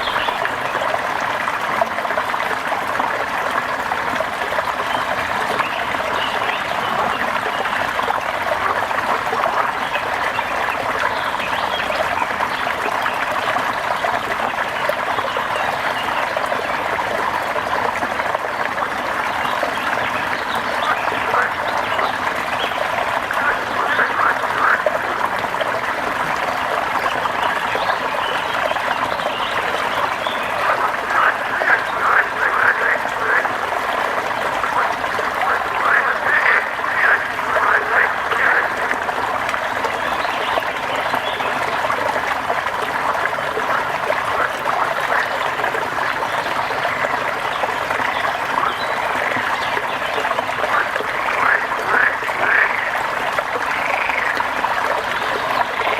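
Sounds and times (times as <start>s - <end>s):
frogs croaking: 0.0s - 55.9s.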